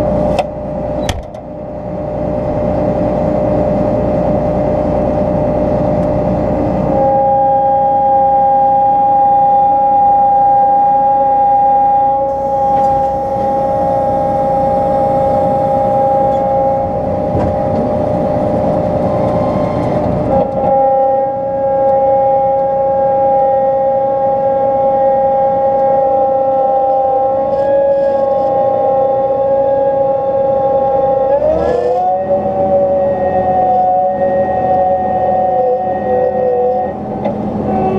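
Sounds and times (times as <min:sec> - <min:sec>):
combine harvester high whine: 0:00.0 - 0:37.9.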